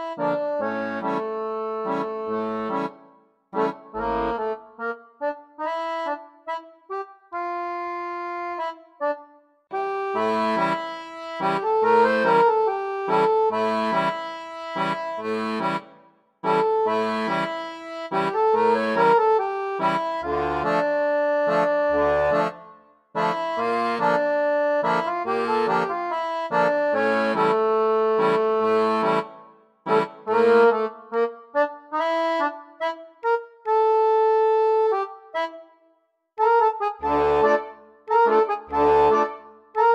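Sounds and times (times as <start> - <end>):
accordion music: 0.0 - 39.9.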